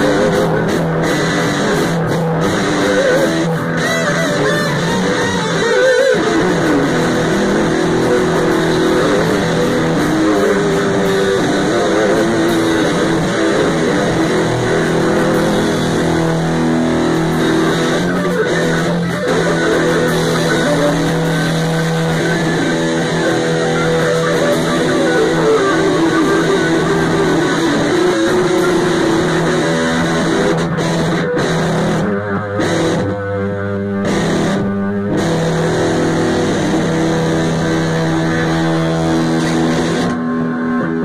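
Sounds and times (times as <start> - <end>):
electric guitars playing: 0.0 - 41.0.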